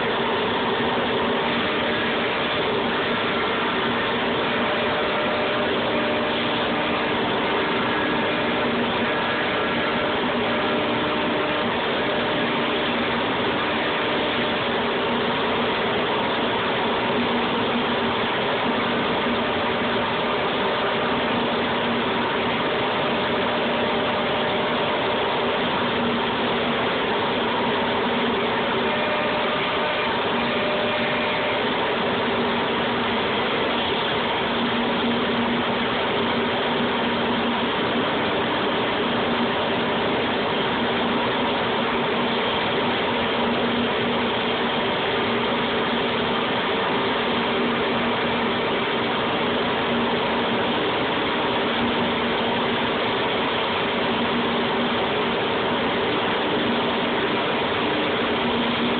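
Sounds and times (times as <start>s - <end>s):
cnc router whir and hiss: 0.0s - 58.9s.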